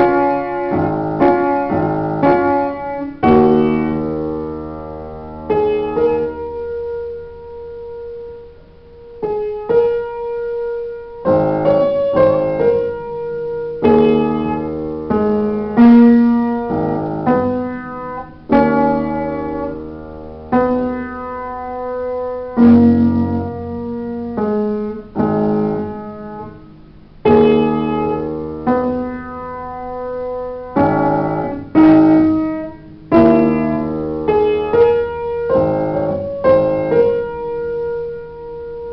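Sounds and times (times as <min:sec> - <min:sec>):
slow solo piano: 0:00.0 - 0:38.9.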